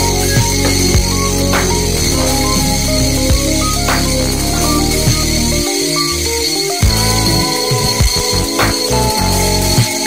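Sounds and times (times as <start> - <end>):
electronic music with drums: 0.0 - 10.0.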